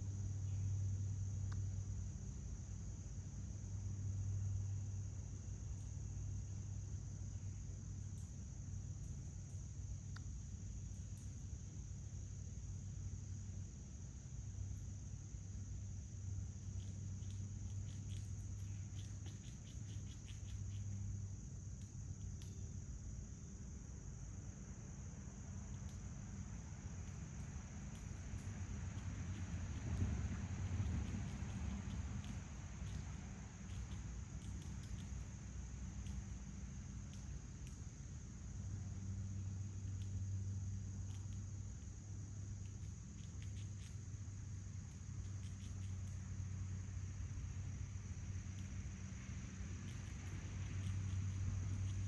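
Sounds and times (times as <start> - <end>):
crickets trilling: 0.0 - 52.0
faint ticks or chirps: 0.0 - 52.0.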